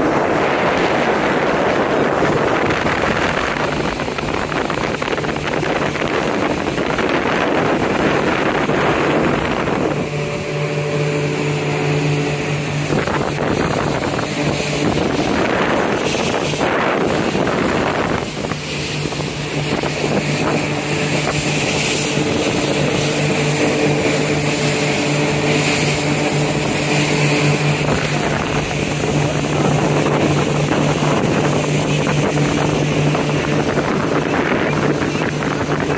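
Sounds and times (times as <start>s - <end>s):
boat engine droning: 0.0s - 35.9s
wind and water rushing: 0.0s - 35.9s.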